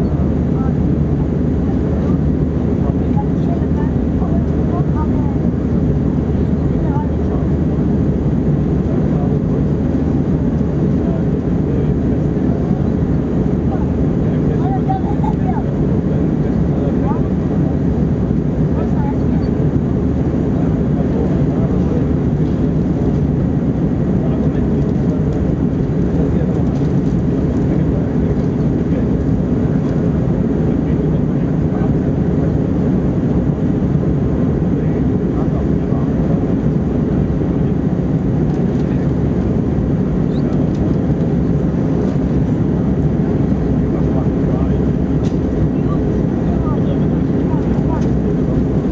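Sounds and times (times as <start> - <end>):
airplane cabin drone: 0.0 - 48.9
jet engine rumble: 0.0 - 48.9.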